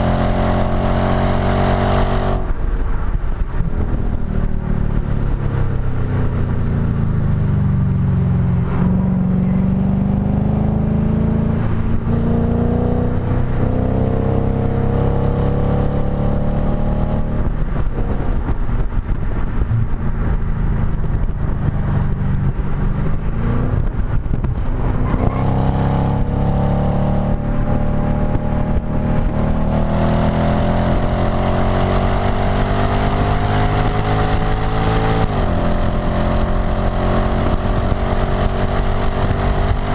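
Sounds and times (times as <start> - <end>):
car engine accelerating: 0.0 - 39.9
wind and tyre noise: 0.0 - 39.9.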